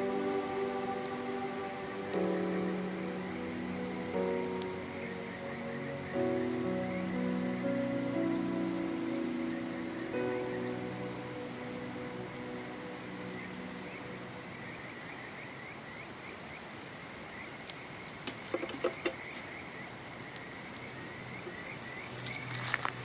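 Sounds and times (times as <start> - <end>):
flowing water hiss: 0.0 - 23.0
sharp crackling snaps: 0.0 - 23.0.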